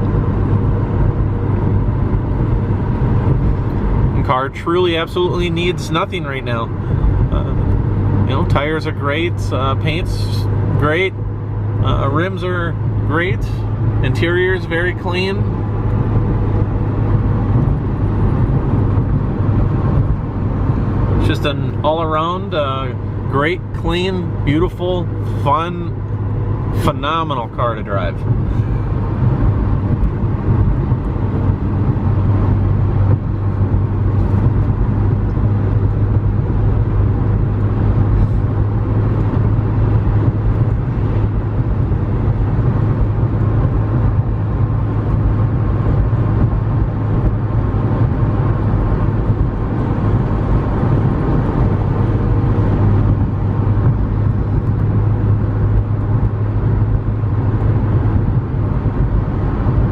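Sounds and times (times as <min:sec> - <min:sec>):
car engine low drone: 0:00.0 - 0:59.9
road and tyre noise: 0:00.0 - 0:59.9.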